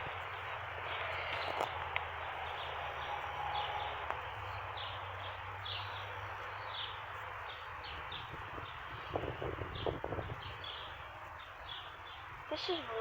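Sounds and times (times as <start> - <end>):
outdoor hiss: 0.0 - 13.0
bird chirping: 0.1 - 13.0.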